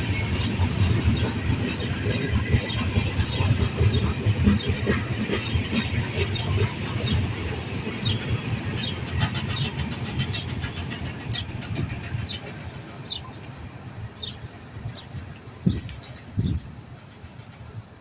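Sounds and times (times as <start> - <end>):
train rumbling by: 0.0 - 18.0.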